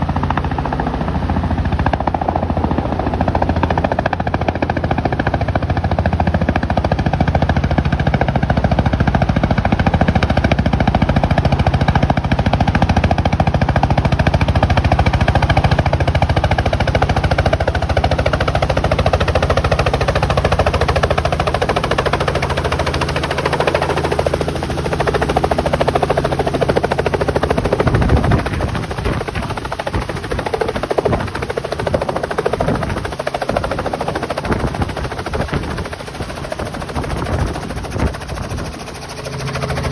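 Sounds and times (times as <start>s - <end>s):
helicopter engine drone: 0.0s - 39.9s
helicopter rotor chopping: 0.0s - 39.9s.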